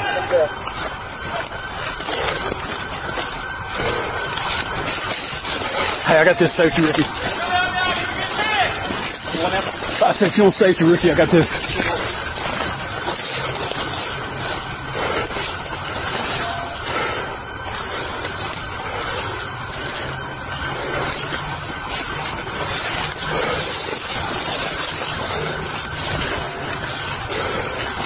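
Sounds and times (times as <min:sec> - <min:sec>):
leaves and branches brushing: 0:00.0 - 0:28.0.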